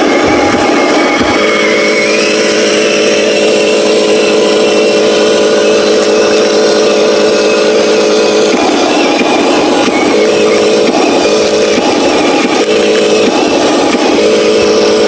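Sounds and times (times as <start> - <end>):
thin high whine: 0.0 - 15.0
toy truck engine sound: 0.0 - 15.0.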